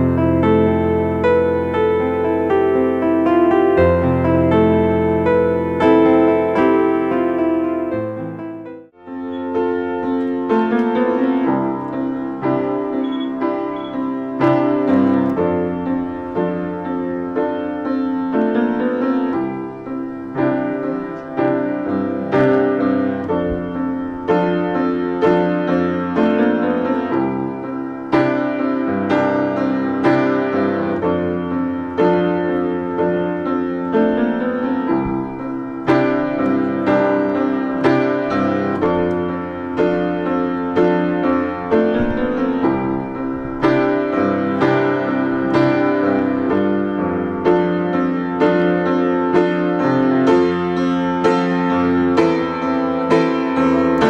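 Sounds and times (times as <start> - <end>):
piano melody over chords: 0.0 - 54.0.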